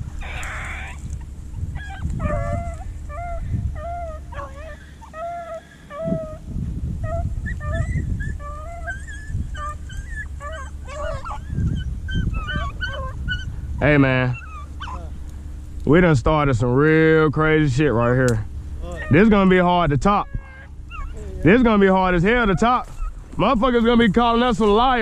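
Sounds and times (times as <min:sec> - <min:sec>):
dogs yelping: 0:00.0 - 0:15.7, 0:18.8 - 0:25.0.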